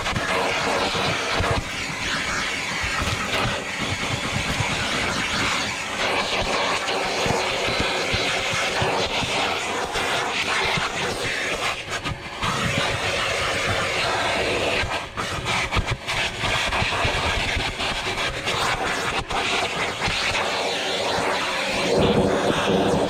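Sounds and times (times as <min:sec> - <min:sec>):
vacuum cleaner on car carpet: 0:00.0 - 0:23.0.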